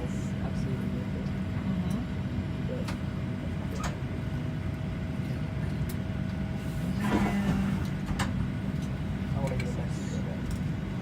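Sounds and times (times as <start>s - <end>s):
aircraft cabin ventilation hum: 0.0s - 11.0s.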